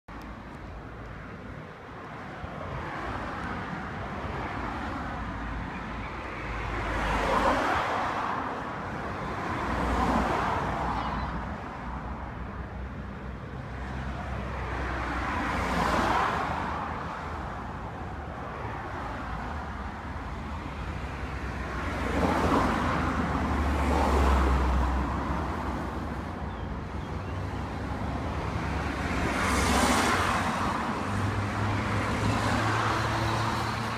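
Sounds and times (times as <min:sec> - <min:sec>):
traffic rumble: 0:00.1 - 0:33.9
vehicles passing close by: 0:00.1 - 0:33.9.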